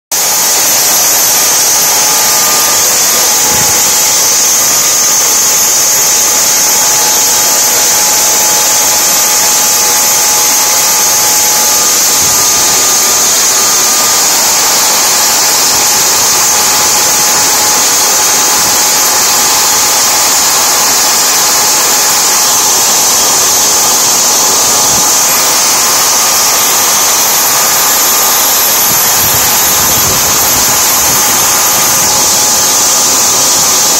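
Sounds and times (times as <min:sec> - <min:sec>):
gas turbine engine whining: 0:00.1 - 0:33.9.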